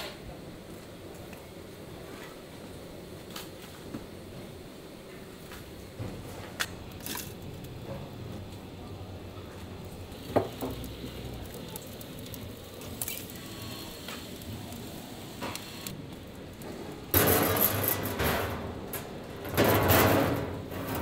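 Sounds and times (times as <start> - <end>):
room noise: 0.8 - 21.0.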